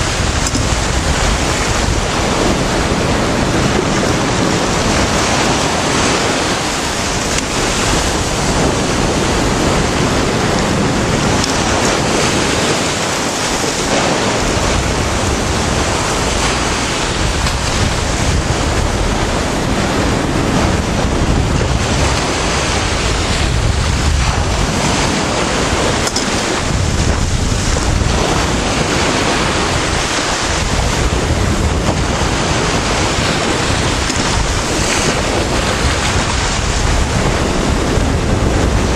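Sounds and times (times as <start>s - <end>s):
surf washing around rocks: 0.0s - 38.9s
wind buffeting microphone: 0.0s - 38.9s.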